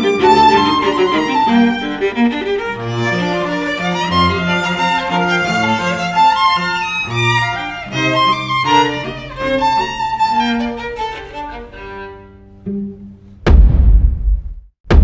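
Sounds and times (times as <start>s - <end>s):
bowed string music: 0.0s - 13.4s.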